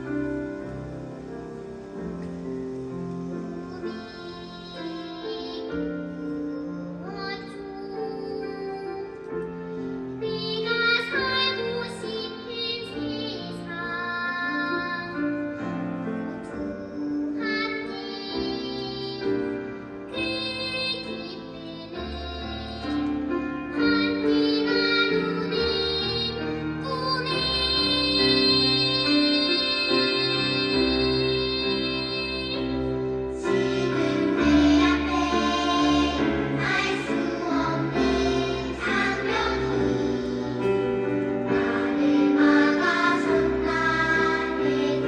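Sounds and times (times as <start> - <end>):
children's choir singing: 0.0 - 45.0
piano accompaniment: 0.0 - 45.0.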